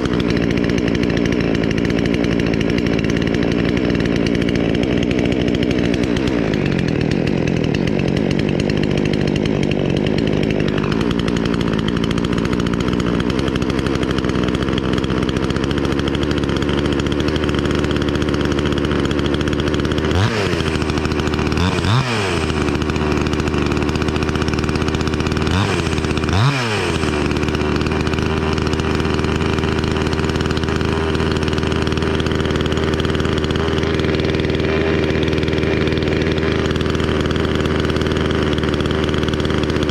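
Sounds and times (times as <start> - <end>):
chainsaw engine idling: 0.0 - 39.9
chainsaw throttle revving: 0.0 - 39.9.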